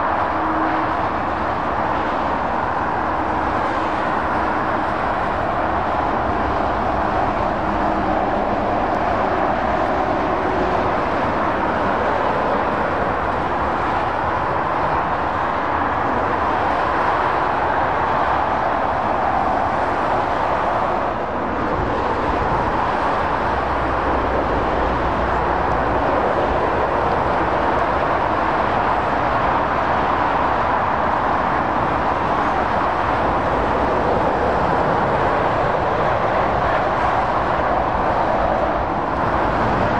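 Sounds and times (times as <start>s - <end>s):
motorway traffic roar: 0.0s - 39.9s.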